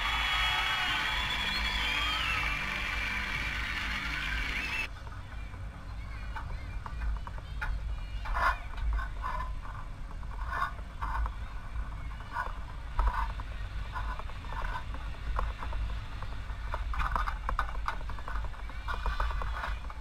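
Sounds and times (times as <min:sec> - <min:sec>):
distant voices: 0:00.0 - 0:20.0.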